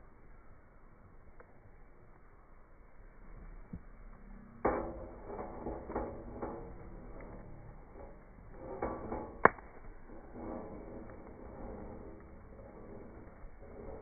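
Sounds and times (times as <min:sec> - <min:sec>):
fire popping: 0:00.0 - 0:14.0
wood fire crackling: 0:00.0 - 0:14.0.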